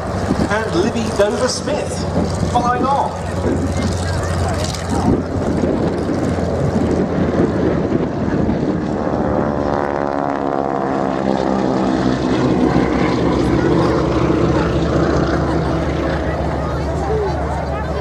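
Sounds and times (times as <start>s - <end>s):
biplane engines droning: 0.0s - 18.0s.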